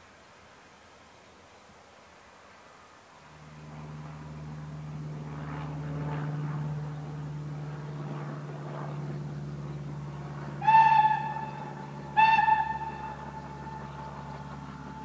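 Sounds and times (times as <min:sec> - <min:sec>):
propeller aircraft engine droning: 0:02.3 - 0:15.0.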